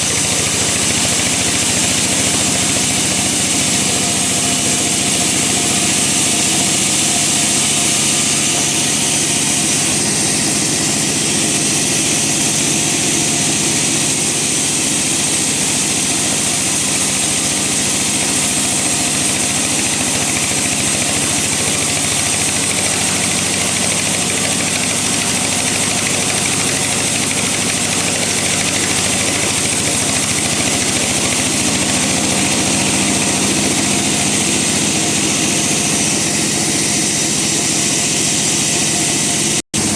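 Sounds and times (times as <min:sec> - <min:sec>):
bandsaw cutting log: 0:00.0 - 0:39.9.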